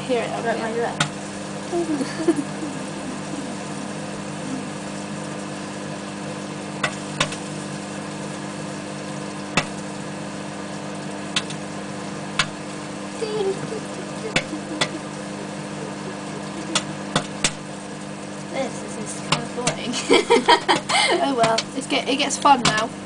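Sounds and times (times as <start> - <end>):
microwave oven humming: 0.0 - 23.0
popcorn popping: 0.7 - 18.6, 19.2 - 19.9, 20.6 - 23.0.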